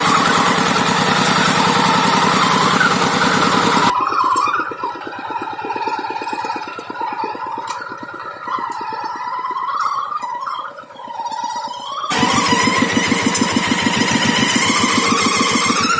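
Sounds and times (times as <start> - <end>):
diesel engine running: 0.0 - 11.2, 12.0 - 15.9.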